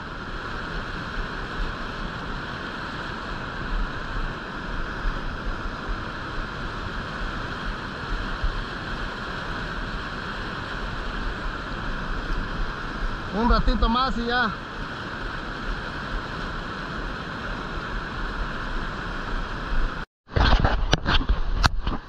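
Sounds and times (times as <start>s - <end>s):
whitewater rushing below dam: 0.0s - 20.0s.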